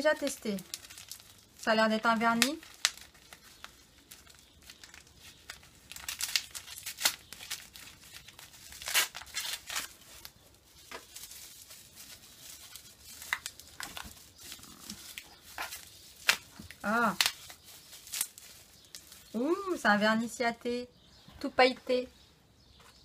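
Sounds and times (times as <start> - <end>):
gift wrapping tearing and crumpling: 0.0 - 19.6.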